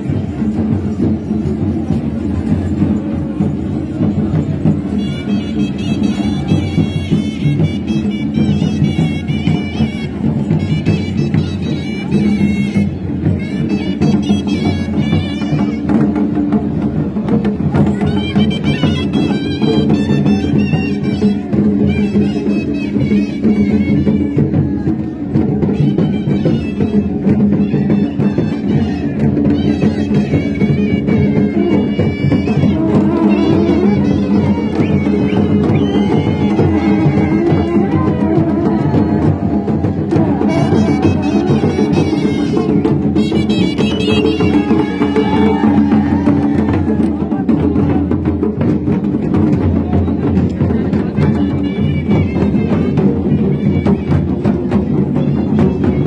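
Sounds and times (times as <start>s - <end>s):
reedy wind instrument melody: 0.0s - 48.0s, 51.0s - 56.0s
drums beating: 0.0s - 56.0s.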